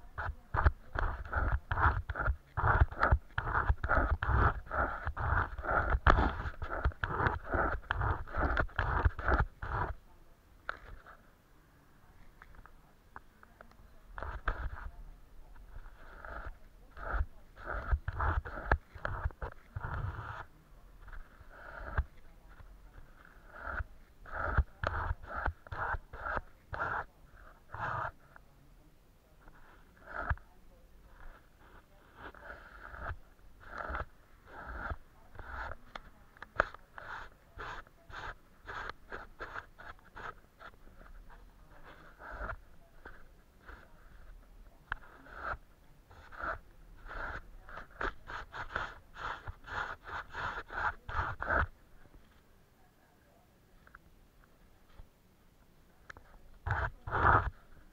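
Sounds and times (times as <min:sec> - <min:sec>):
paintbrush scratching on paper: 0:00.0 - 0:11.3, 0:13.9 - 0:28.5, 0:29.3 - 0:52.4, 0:56.1 - 0:57.9.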